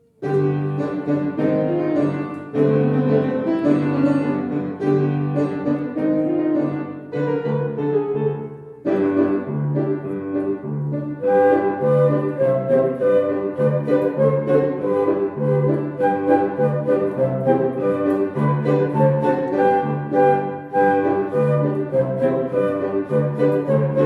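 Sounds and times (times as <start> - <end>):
piano playing: 0.0 - 24.0.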